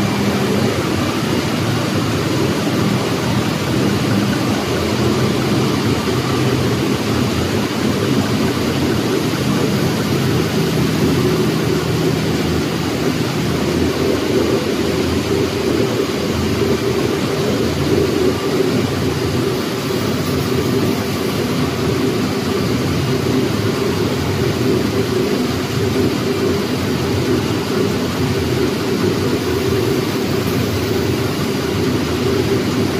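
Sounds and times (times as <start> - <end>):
paper machine deep rumble with hiss: 0.0 - 32.9.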